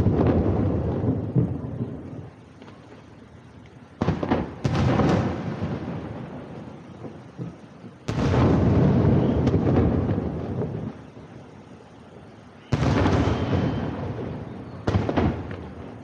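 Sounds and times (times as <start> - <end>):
firework booms: 0.0 - 2.9, 4.0 - 11.2, 12.6 - 16.0.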